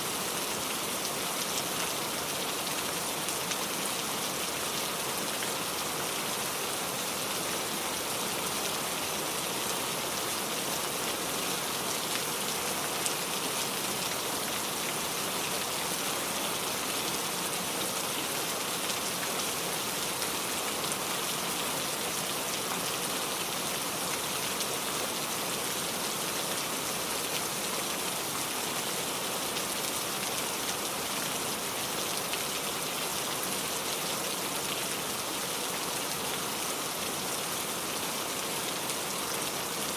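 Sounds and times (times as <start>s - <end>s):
rain hissing and pattering: 0.0s - 39.9s.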